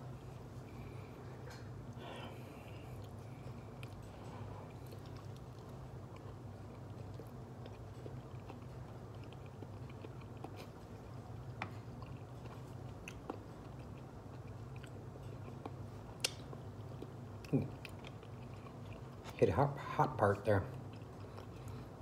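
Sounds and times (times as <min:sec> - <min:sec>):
steady low background hum: 0:00.0 - 0:22.0
person chewing: 0:00.1 - 0:19.4, 0:20.7 - 0:22.0.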